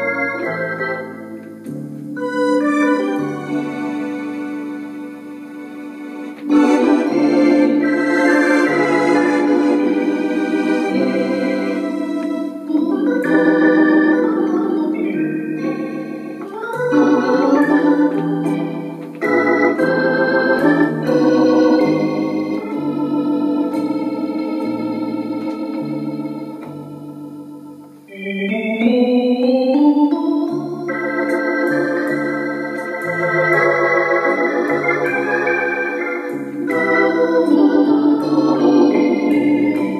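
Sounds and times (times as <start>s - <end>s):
accordion playing organ-like tune: 0.0s - 39.9s.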